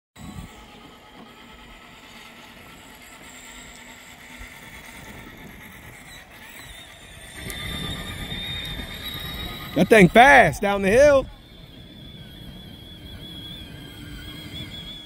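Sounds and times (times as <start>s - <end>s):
toy electric motor whine: 0.2s - 15.0s
wheels rolling: 0.2s - 15.0s.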